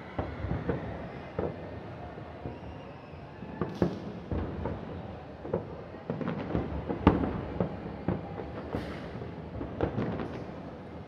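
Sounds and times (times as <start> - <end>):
fireworks booms and bangs: 0.0 - 11.0.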